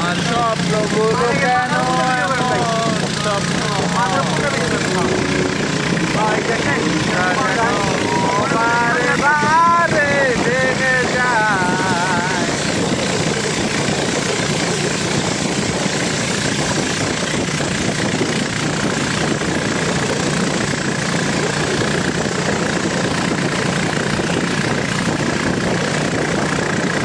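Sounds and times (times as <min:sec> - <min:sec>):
boat engine droning: 0:00.0 - 0:27.0
rushing water noise: 0:00.0 - 0:27.0.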